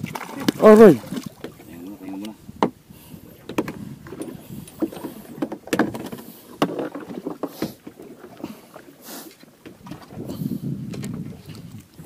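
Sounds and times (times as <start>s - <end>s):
knocks and clatter on boat: 0.0s - 8.6s, 9.4s - 12.0s.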